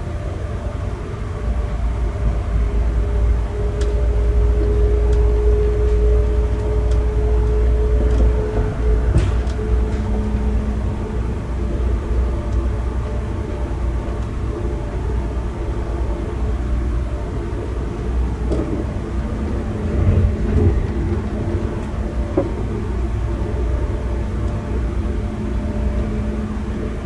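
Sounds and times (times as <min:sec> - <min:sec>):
steady hum: 0:00.0 - 0:27.0
train wheels rumbling on rails: 0:00.0 - 0:27.0.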